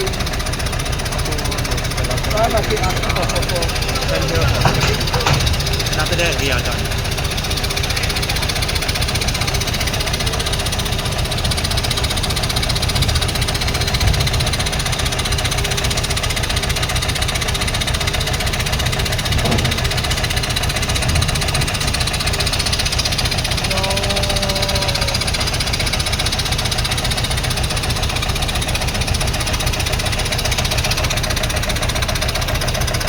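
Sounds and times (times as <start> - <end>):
large engine idling: 0.0 - 33.0.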